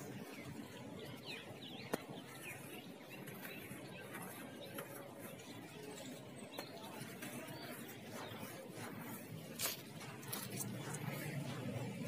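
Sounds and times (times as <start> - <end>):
birds chirping: 0.0 - 12.0
sand trickling through fingers: 0.1 - 12.0.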